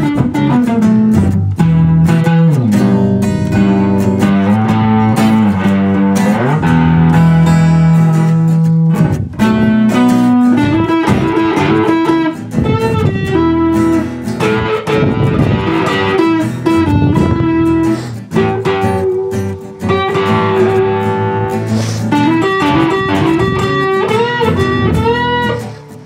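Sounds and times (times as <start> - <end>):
blues electric guitar: 0.0 - 26.0.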